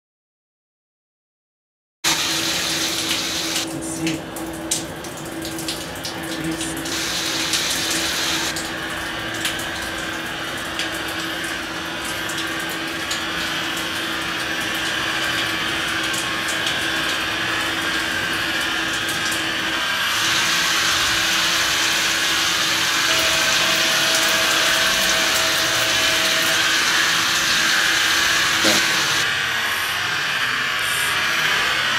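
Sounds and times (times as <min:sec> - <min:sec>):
shower spray running: 0:02.1 - 0:29.3
steady hum: 0:02.1 - 0:29.3.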